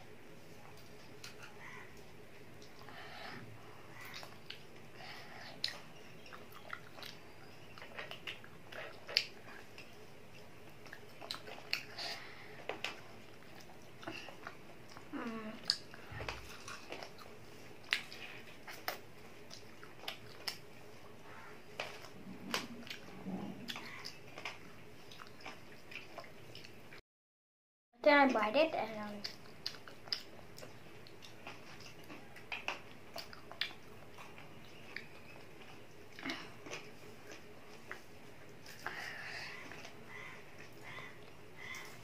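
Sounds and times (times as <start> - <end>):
child chewing fried chicken: 0.3 - 27.0, 28.9 - 42.0.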